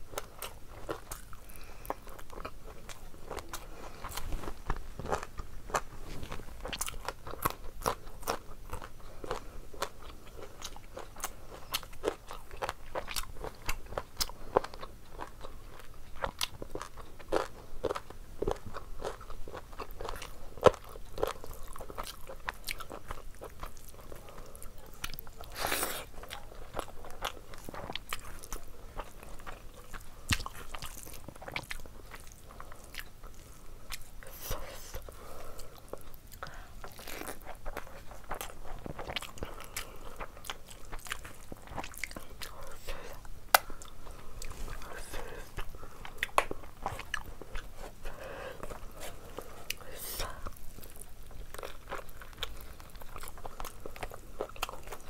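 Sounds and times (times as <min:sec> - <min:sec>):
person chewing and biting food: 0:00.1 - 0:55.0.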